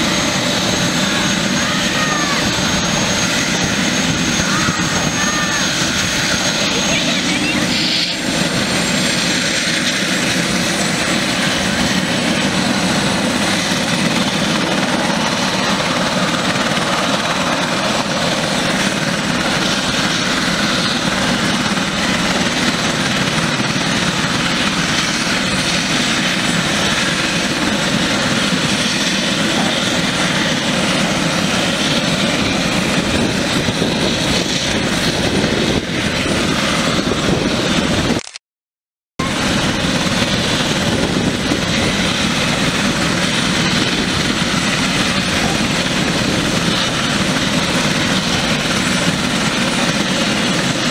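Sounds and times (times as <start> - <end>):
helicopter running on the ground: 0.0 - 38.4, 39.2 - 50.9.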